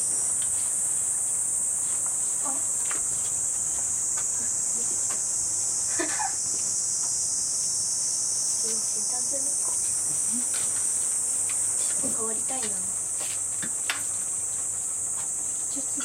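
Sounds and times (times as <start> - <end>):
cicadas singing: 0.0 - 16.0.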